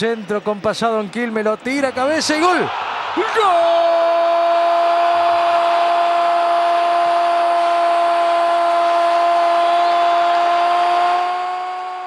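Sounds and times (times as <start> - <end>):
stadium crowd noise: 0.0 - 12.0.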